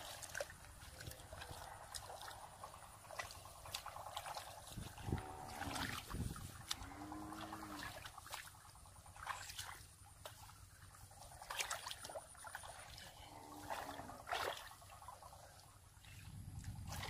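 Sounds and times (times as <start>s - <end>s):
hands splashing in muddy water: 0.0s - 6.8s, 7.4s - 17.0s.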